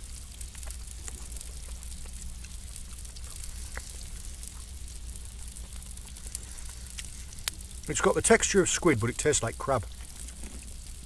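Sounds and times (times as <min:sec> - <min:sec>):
fire crackling: 0:00.0 - 0:11.0
food sizzling on coals: 0:00.0 - 0:11.0
low steady rumble: 0:00.0 - 0:11.0.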